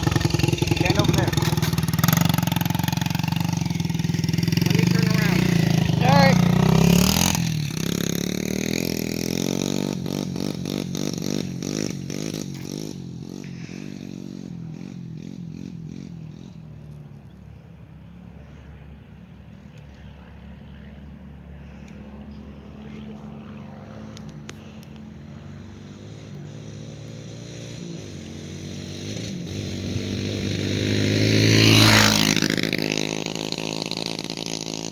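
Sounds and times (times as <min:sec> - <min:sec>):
dirt bike engine running: 0:00.0 - 0:17.4, 0:21.5 - 0:34.9.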